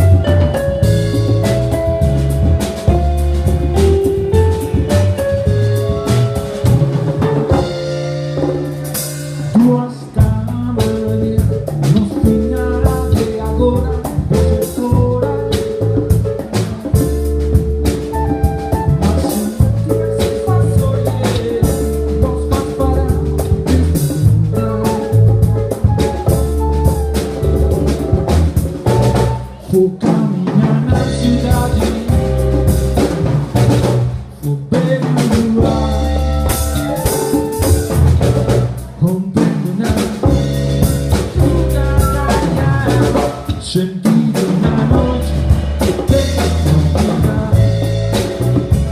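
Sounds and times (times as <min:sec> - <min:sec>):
bass line: 0:00.0 - 0:48.9
drum kit beat: 0:00.0 - 0:48.9
funk band music: 0:00.0 - 0:48.9.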